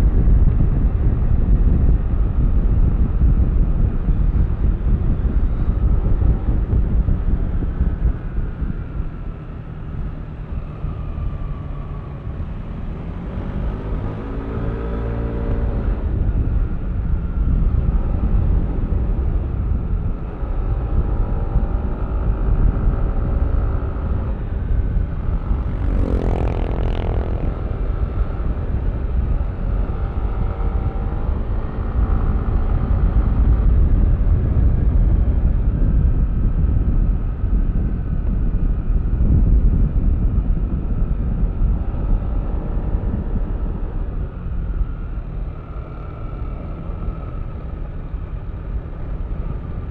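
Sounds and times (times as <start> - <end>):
rush of noise passing: 0.0 - 49.9
wind rumble on microphone: 0.0 - 49.9.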